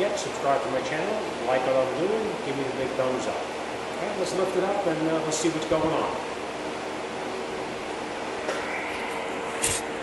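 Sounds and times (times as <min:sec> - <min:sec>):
faint hum: 0:00.0 - 0:10.0
repair shop background noise: 0:00.0 - 0:10.0.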